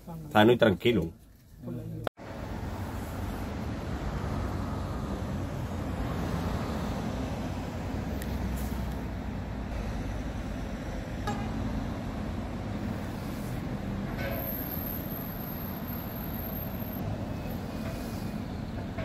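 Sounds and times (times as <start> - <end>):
motorhome driving past: 2.2 - 19.0.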